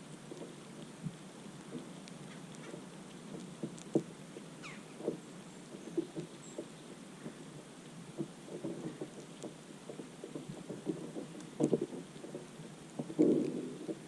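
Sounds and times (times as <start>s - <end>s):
soft taps and thumps: 0.2s - 14.0s.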